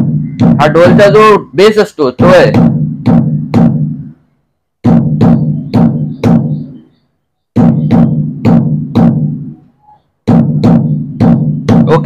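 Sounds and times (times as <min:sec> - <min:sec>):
deep electronic dhol strokes: 0:00.0 - 0:09.6, 0:10.2 - 0:12.0.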